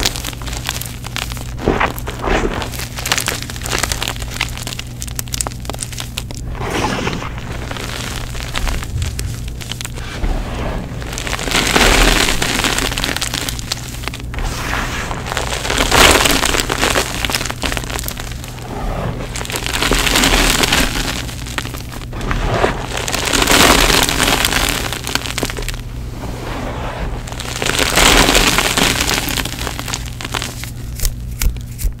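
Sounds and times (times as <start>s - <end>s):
hands crunching powdered chalk: 0.0s - 32.0s
steady low hum: 0.0s - 32.0s.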